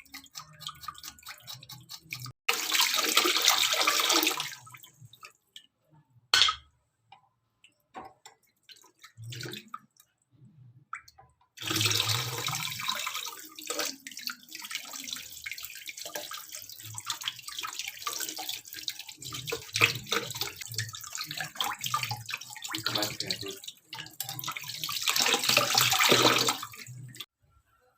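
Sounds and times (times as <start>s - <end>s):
water running: 0.0s - 5.7s, 7.6s - 10.1s, 11.0s - 27.3s.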